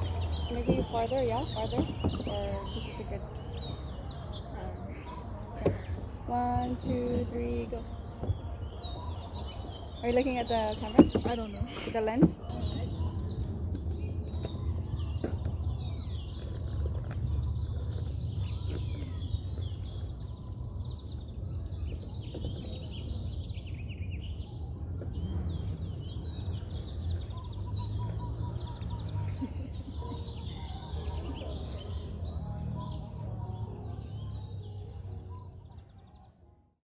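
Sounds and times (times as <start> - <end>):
birds chirping and calling: 0.0 - 36.7.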